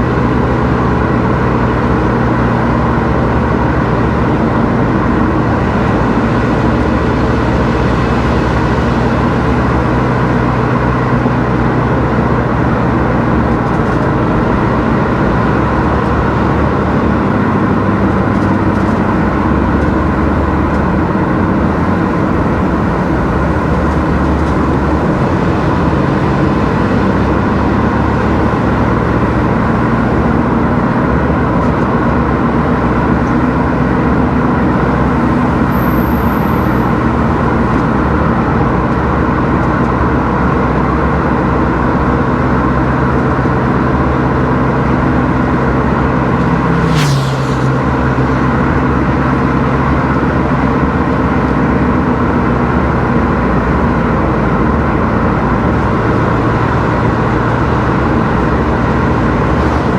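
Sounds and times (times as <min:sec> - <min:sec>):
car engine hum: 0:00.0 - 0:59.9
road and tyre noise: 0:00.0 - 0:59.9.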